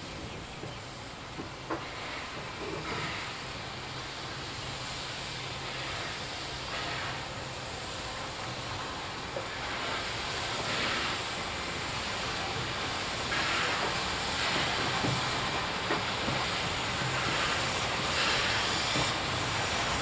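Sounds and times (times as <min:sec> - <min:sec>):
steam train passing: 0:00.0 - 0:20.0.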